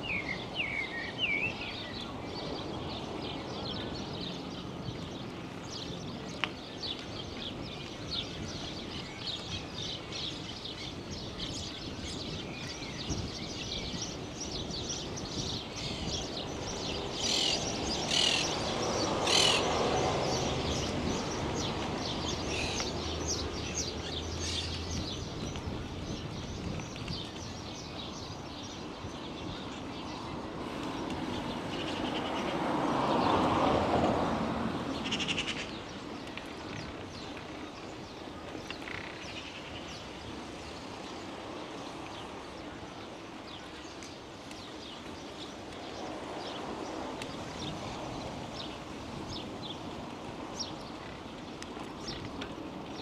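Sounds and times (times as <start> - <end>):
small birds chirping: 0.0 - 33.5, 34.8 - 53.0
outdoor background noise: 0.0 - 53.0.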